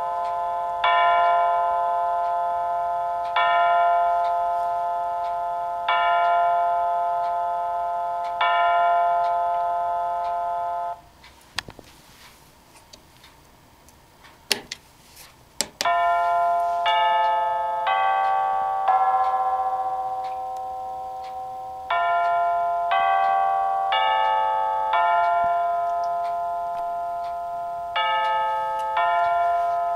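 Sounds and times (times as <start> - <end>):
electronic clock chime melody: 0.0 - 11.1, 15.8 - 29.9.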